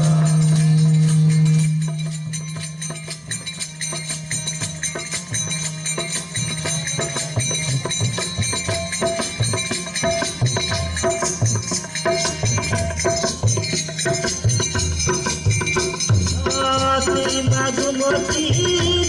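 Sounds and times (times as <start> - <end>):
hand percussion beat: 0.0 - 19.0.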